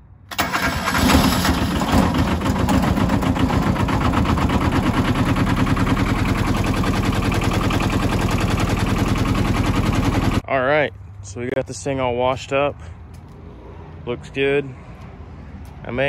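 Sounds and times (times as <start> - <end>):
diesel engine starting and running: 0.0 - 16.0.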